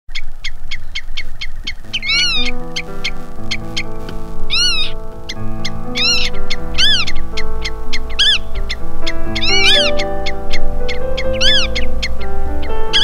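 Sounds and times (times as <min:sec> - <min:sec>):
pitched rising and falling call: 0:01.8 - 0:13.0
sustained chords: 0:01.8 - 0:13.0.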